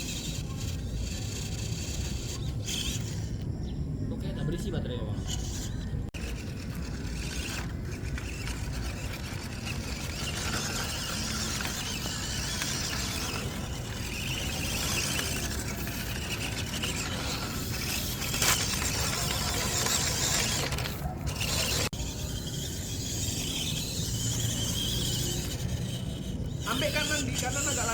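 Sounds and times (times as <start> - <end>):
toy truck motor whirring: 0.0 - 3.6, 4.5 - 27.9.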